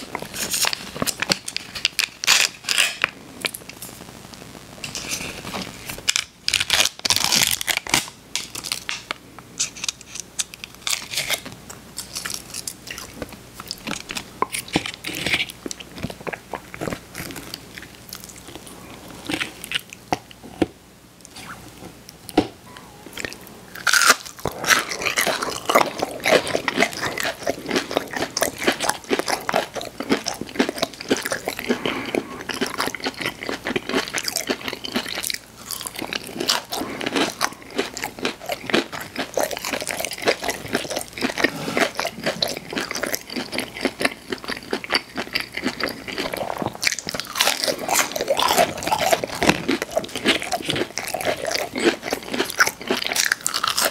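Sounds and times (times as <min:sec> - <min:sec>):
crunching and chewing food: 0:00.0 - 0:04.0, 0:04.8 - 0:21.4, 0:23.1 - 0:53.9.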